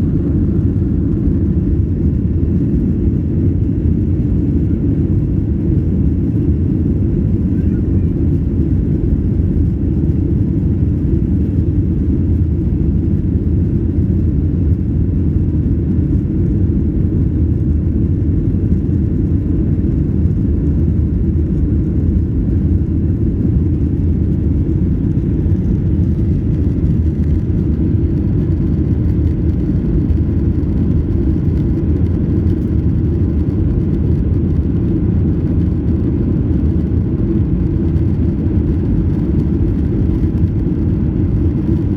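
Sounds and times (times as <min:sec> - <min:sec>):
jet engines and airflow in cabin: 0:00.0 - 0:41.9.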